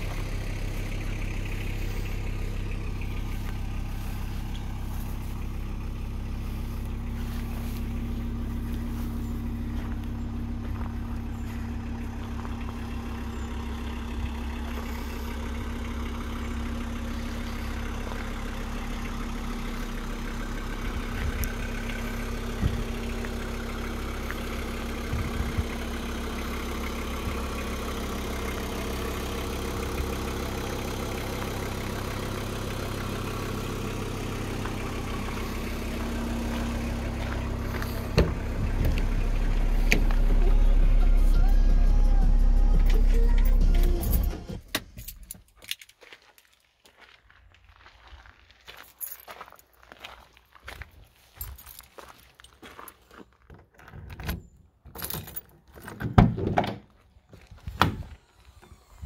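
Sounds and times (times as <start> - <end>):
diesel engine idling: 0.0 - 45.4, 46.8 - 59.0.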